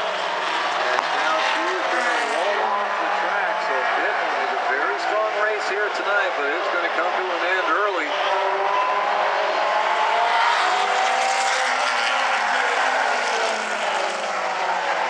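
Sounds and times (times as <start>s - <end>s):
stock car engines racing: 0.0s - 15.0s.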